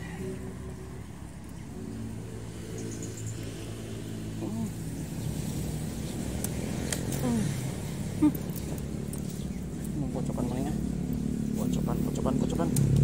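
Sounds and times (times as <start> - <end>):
road traffic hum: 0.0 - 13.0
vehicle engine running: 0.0 - 13.0.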